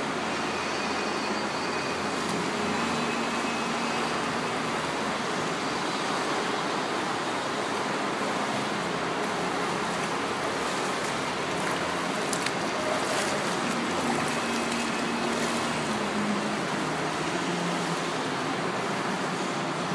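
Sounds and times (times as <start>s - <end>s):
indoor pool noise: 0.0s - 19.9s
swimmer splashing water: 0.0s - 19.9s.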